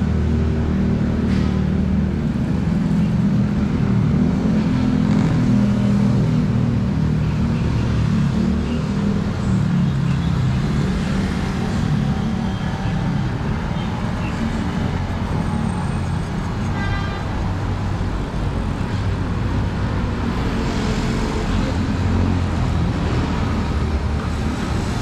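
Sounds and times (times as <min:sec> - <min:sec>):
vehicle engines humming: 0:00.0 - 0:25.0.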